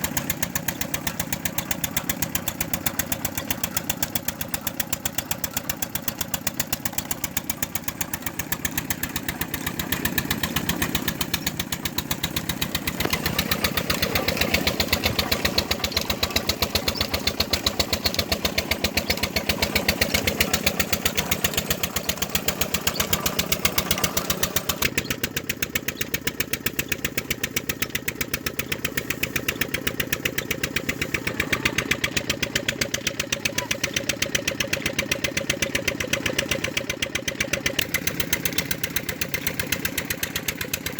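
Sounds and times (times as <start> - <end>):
engine running with fast beat: 0.0 - 40.9.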